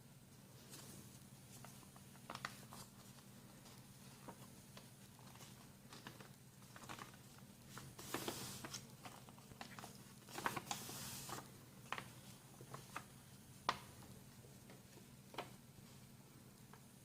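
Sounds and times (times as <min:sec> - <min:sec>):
paper rustling: 0:00.6 - 0:16.8.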